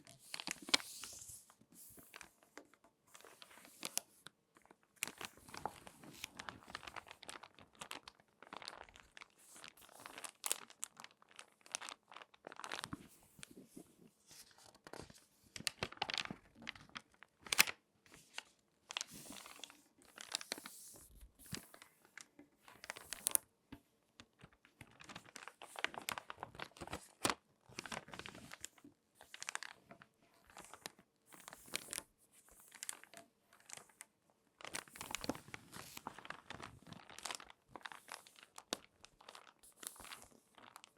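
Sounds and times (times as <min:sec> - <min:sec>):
magazine pages crinkling: 0:00.3 - 0:13.6, 0:14.4 - 0:23.4, 0:24.4 - 0:32.1, 0:32.7 - 0:33.9, 0:34.6 - 0:40.9.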